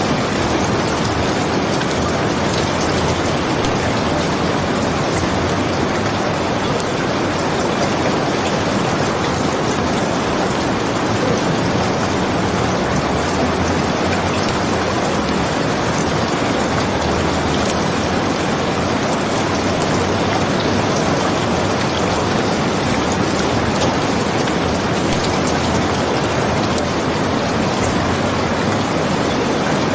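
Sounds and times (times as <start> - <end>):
steady rain: 0.0 - 29.9.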